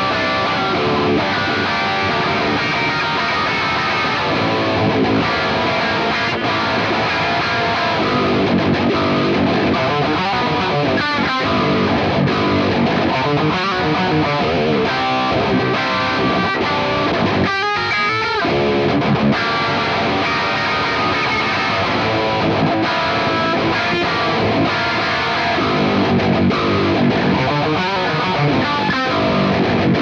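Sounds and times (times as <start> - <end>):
distorted electric guitar riffing: 0.0 - 30.0.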